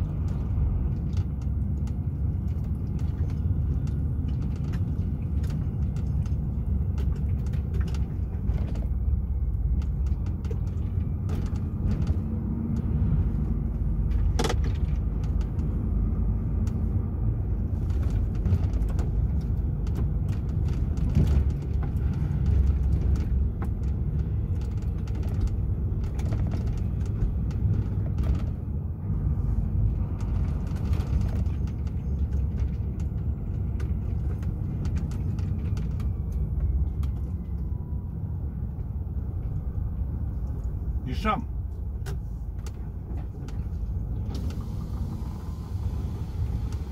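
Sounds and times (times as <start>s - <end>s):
road noise: 0.0s - 46.9s
truck engine rumbling: 0.0s - 46.9s.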